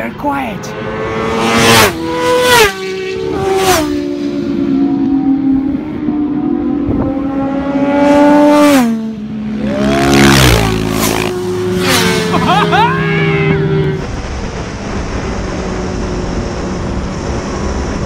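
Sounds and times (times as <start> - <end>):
motorcycles passing at high revs: 0.0 - 18.0.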